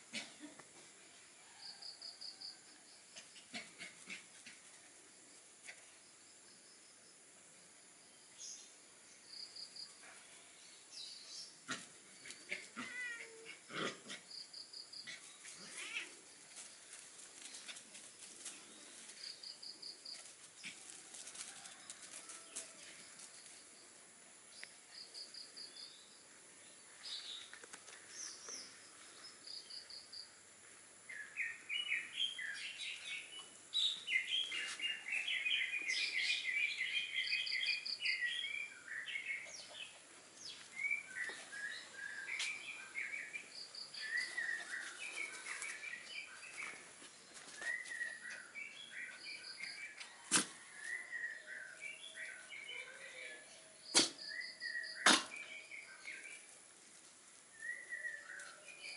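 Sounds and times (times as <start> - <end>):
small birds chirping: 8.2 - 21.8, 24.5 - 30.4, 31.1 - 58.9.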